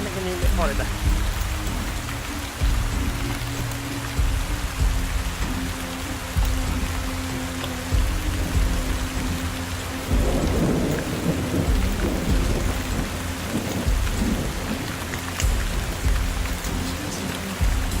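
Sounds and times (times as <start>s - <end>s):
low rumbling: 0.0s - 18.0s
rain falling: 0.0s - 18.0s.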